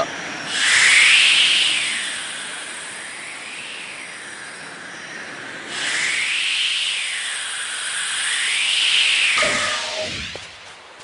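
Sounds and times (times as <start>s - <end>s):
cartoon flight whoosh: 0.0s - 10.4s.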